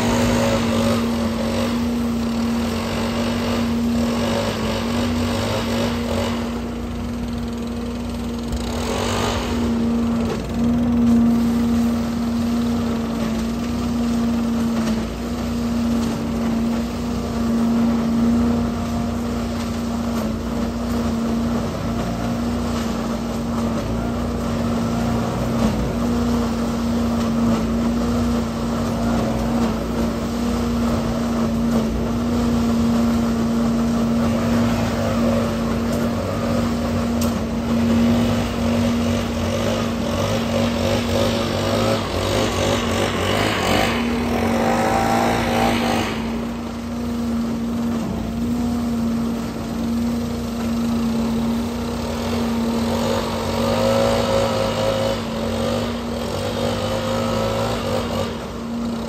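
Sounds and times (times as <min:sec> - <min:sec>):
leaf vacuum engine drone: 0:00.0 - 0:59.0
leaves sucked through hose: 0:00.0 - 0:59.0.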